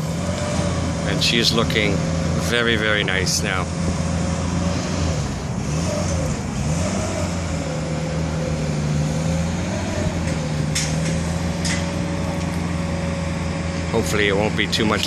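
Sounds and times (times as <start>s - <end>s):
loud engine drone: 0.0s - 15.0s.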